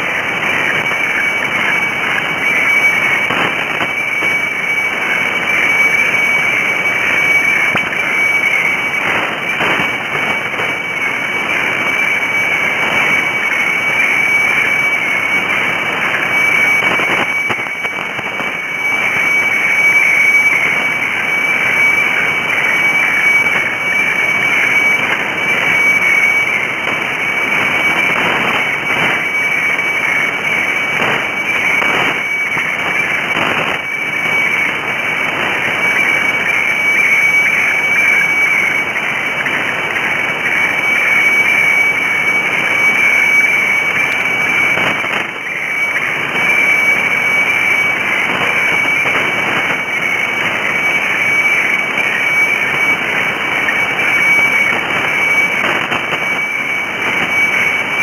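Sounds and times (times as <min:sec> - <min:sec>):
high whistle-like radio tone: 0:00.0 - 0:58.0
hissing crackling fax modulation: 0:00.0 - 0:58.0.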